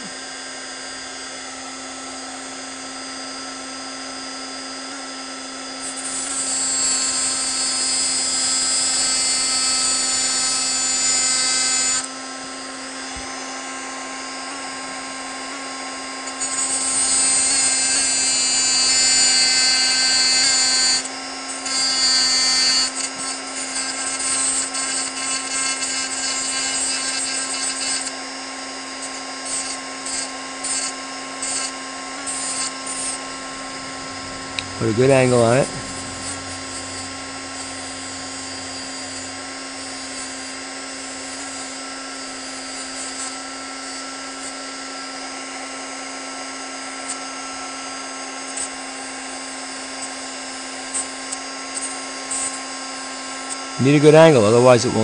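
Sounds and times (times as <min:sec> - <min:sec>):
rotary tool grinding metal: 0:00.0 - 0:55.0.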